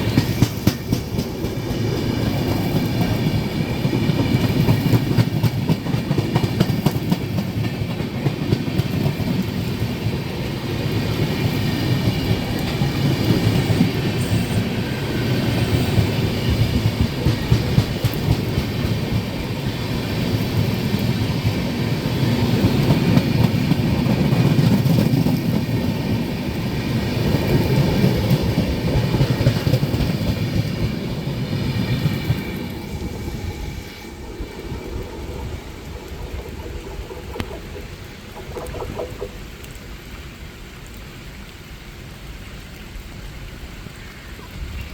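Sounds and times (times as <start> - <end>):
train wheels clattering: 0.0 - 39.4
train rumble: 0.0 - 40.4
heavy rain: 0.0 - 44.9.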